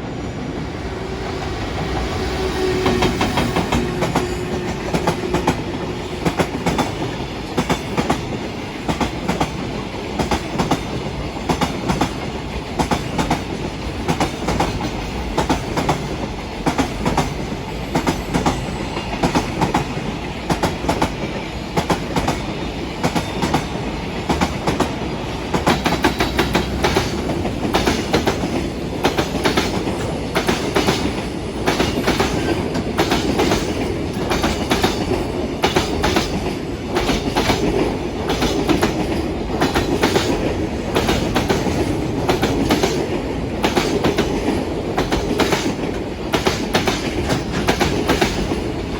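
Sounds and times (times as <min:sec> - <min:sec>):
train wheels clattering over rails: 0:00.4 - 0:48.9.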